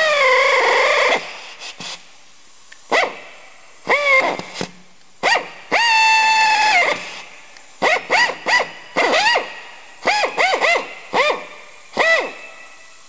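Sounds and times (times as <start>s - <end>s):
air drill whine: 0.0s - 1.8s, 2.9s - 13.0s.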